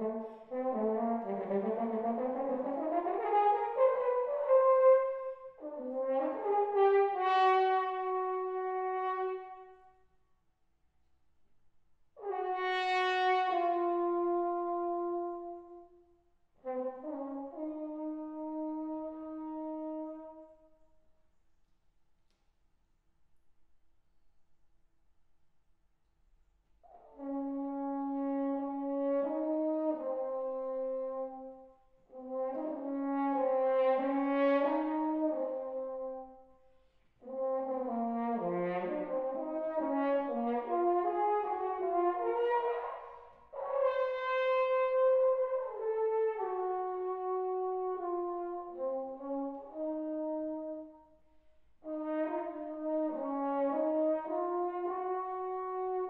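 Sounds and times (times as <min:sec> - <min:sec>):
french horn melody: 0:00.0 - 0:10.2, 0:12.2 - 0:21.0, 0:26.8 - 0:56.0.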